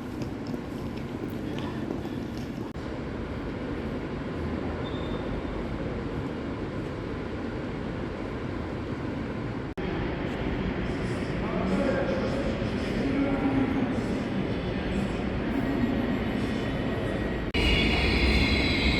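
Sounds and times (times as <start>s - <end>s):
train rumbling on rails: 0.0s - 18.9s.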